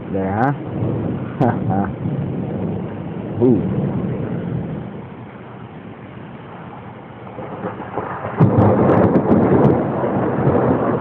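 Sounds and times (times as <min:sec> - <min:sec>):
rain falling: 0:00.0 - 0:11.0
thunder cracking and rumbling: 0:00.0 - 0:11.0.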